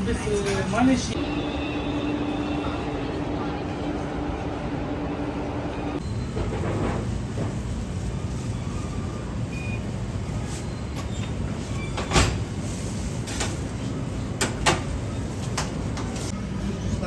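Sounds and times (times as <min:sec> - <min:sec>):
low rumble of background noise: 0:00.0 - 0:17.0.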